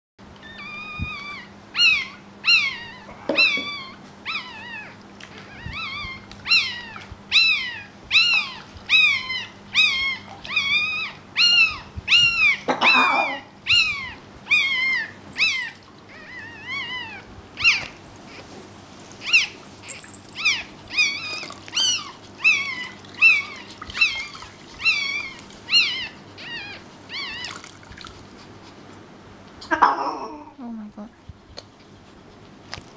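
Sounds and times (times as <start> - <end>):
puppy crying: 0.4 - 18.5, 19.2 - 27.8, 29.6 - 30.6.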